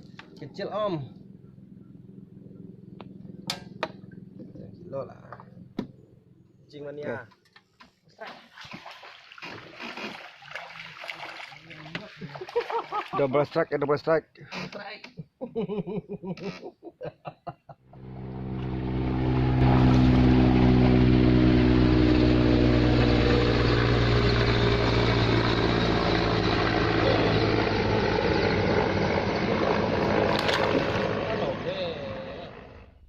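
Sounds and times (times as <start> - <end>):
small boat engine: 0.0 - 6.7, 7.6 - 13.3, 17.8 - 33.0.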